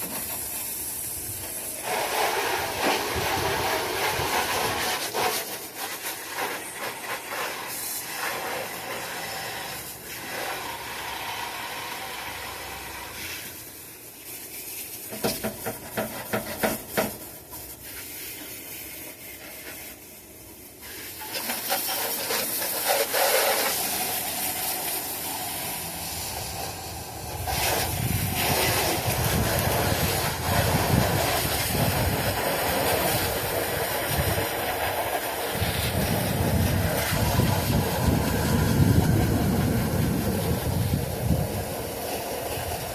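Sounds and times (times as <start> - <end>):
spray hissing: 0.0 - 42.9.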